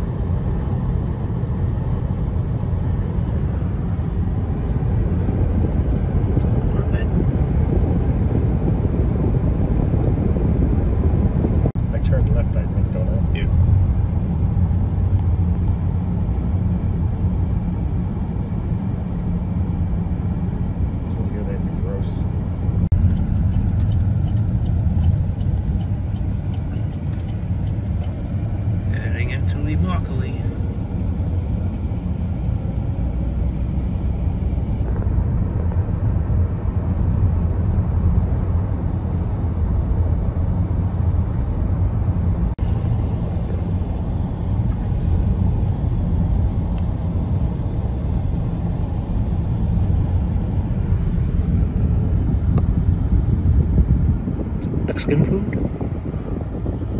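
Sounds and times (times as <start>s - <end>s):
car interior road and engine rumble: 0.0s - 56.9s.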